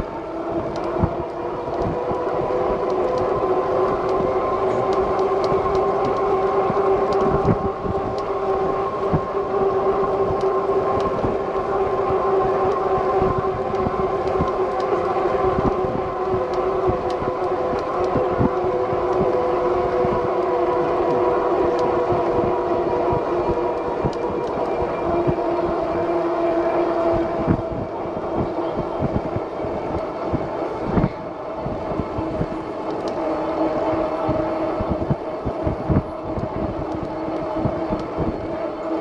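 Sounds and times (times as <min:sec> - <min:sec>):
electric hub motor whining: 0:00.0 - 0:39.0
road rumble: 0:00.0 - 0:39.0
wind: 0:00.0 - 0:39.0.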